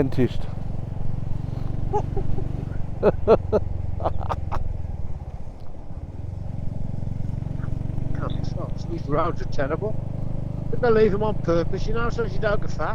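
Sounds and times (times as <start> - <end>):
bumps over rough road: 0.0 - 12.9
motorcycle engine running: 0.0 - 12.9.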